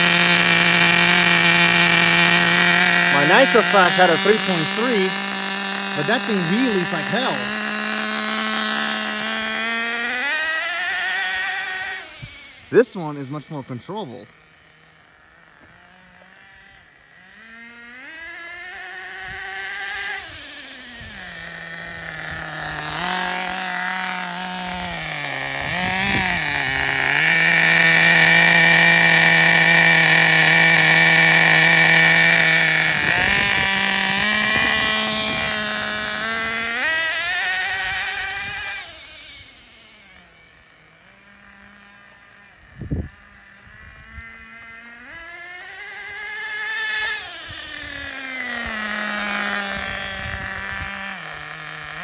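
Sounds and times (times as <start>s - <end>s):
nitro engine revving: 0.0s - 52.0s.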